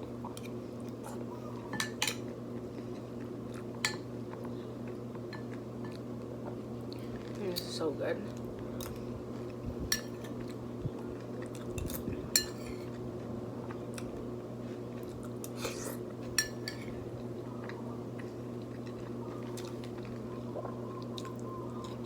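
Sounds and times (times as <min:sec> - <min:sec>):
steady low hum: 0:00.0 - 0:22.0
chewing: 0:00.2 - 0:07.4, 0:10.2 - 0:22.0.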